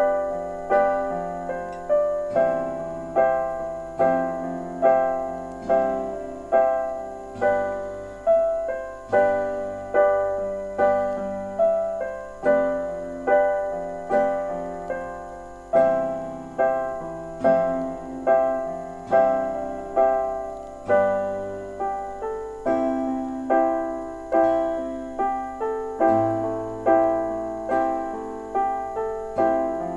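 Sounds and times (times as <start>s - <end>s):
gentle piano chords: 0.0s - 29.9s.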